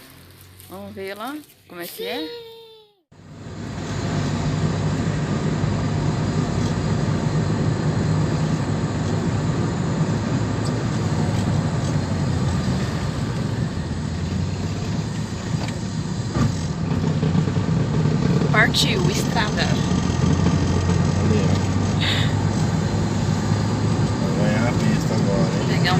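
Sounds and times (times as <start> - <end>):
road noise: 0.0 - 2.4, 3.1 - 25.9
vehicle engine hum: 0.0 - 2.4, 3.1 - 25.9.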